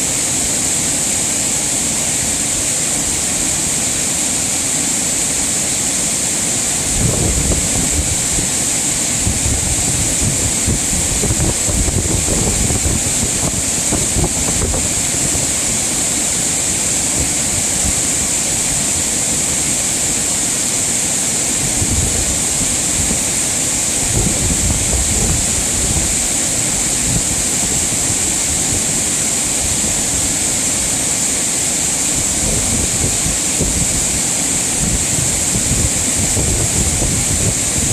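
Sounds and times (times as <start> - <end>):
stream rushing over rocks: 0.0 - 37.9
wind buffeting microphone: 6.7 - 20.7, 21.3 - 37.9.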